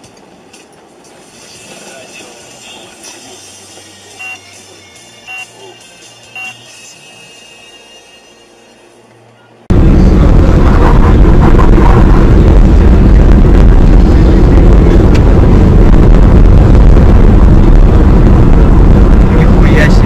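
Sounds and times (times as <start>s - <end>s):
vehicle road and wind noise: 0.0s - 20.0s.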